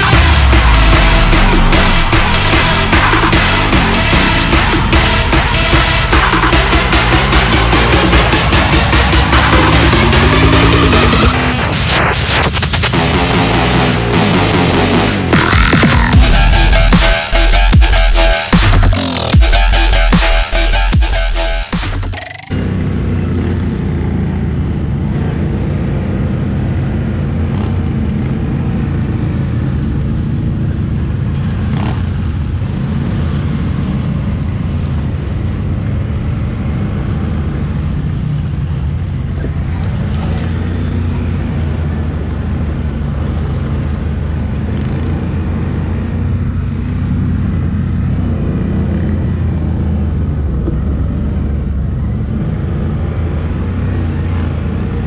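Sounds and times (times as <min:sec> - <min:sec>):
quad bike engine droning: 0:00.0 - 0:55.0.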